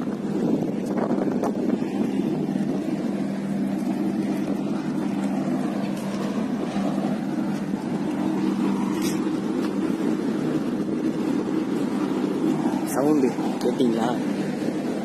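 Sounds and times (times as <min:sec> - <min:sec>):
ship engine droning: 0:00.0 - 0:15.0.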